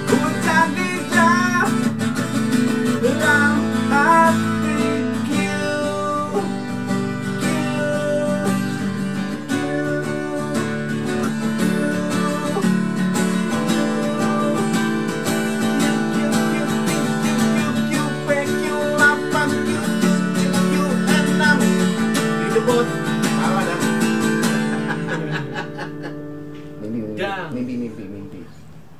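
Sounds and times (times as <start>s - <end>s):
acoustic guitar strummed: 0.0s - 27.3s.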